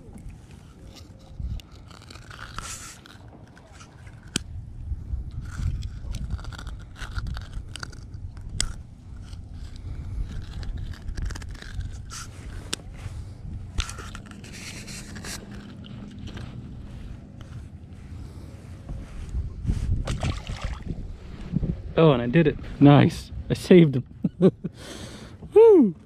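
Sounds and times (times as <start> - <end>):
fish handling and rubbing: 0.0 - 21.9.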